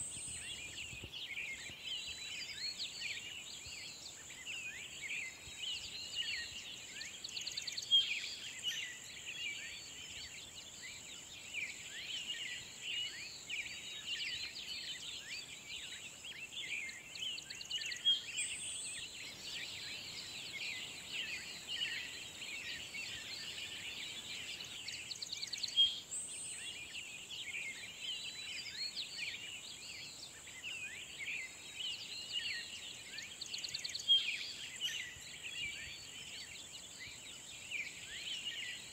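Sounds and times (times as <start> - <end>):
songbirds chorus: 0.0 - 38.9
steady high-pitched hiss: 0.0 - 38.9.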